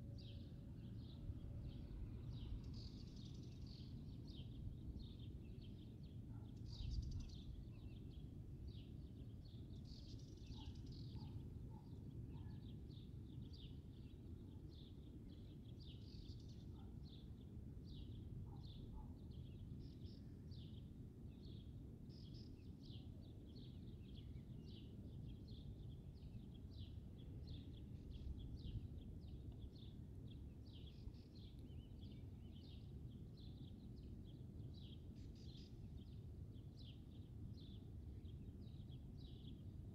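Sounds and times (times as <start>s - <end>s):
small birds chirping: 0.2s - 39.9s.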